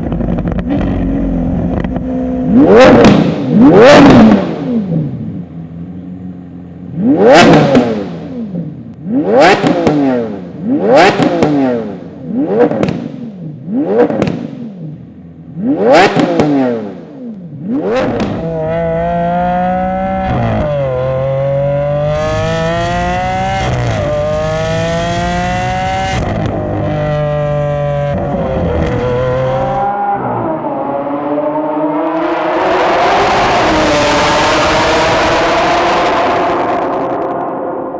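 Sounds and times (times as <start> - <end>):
car engine running under load: 0.0 - 29.9, 31.7 - 37.9
sports car engine revving: 0.0 - 37.2.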